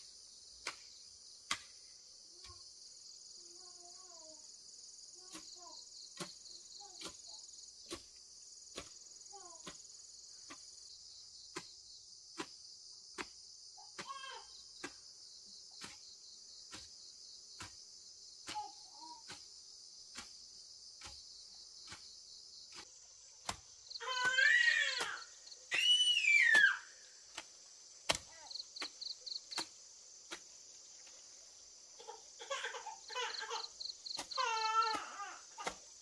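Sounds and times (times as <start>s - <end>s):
insect chorus trilling: 0.0s - 36.0s.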